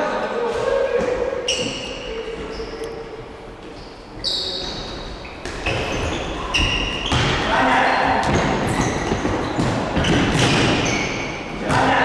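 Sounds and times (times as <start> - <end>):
shoes squeaking on floor: 1.0 - 11.7.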